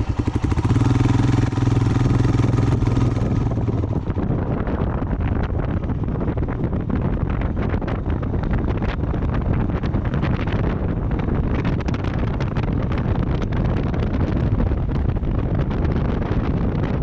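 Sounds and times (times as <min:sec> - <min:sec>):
vehicle engine and road rumble: 0:00.0 - 0:17.0
wind buffeting microphone: 0:00.0 - 0:17.0.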